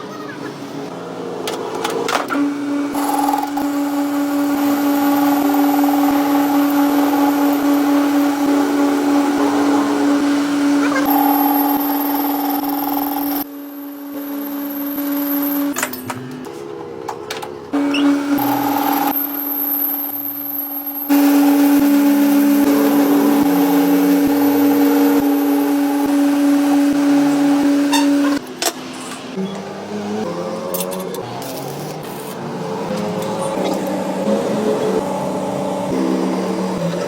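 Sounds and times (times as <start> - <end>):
power tool motor running: 2.4 - 15.8, 17.8 - 28.5, 29.3 - 37.0.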